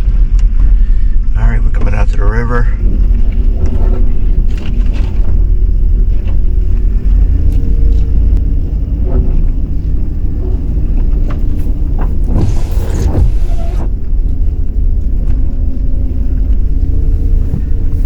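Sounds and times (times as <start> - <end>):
truck engine rumble: 2.0 - 18.0.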